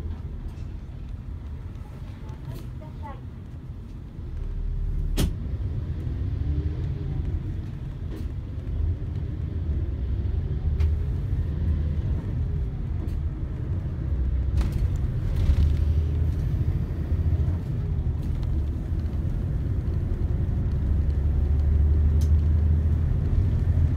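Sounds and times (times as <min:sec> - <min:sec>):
engine and road rumble: 0:00.0 - 0:23.9.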